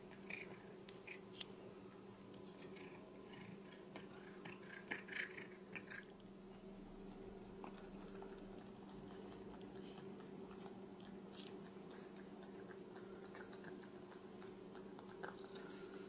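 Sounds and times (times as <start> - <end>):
steady low hum: 0.0 - 16.0
cat licking and chewing: 2.3 - 16.0.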